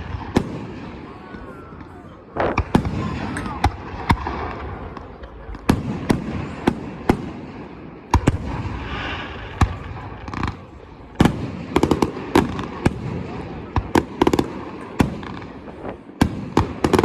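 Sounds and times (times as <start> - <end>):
fireworks bursting with sharp bangs: 0.0 - 17.0
fireworks crackle: 0.0 - 17.0.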